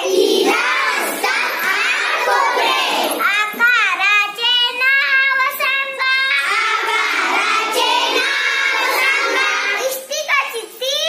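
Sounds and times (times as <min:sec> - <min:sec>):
girls singing together: 0:00.0 - 0:10.0.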